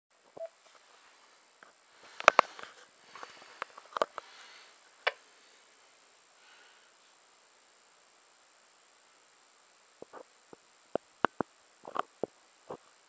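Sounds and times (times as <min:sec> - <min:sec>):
faint hiss with high whine: 0:00.1 - 0:13.0.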